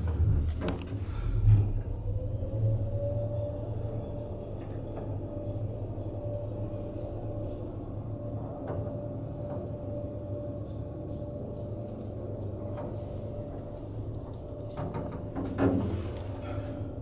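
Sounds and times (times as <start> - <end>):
elevator rumble and motor whine: 0.0 - 17.0.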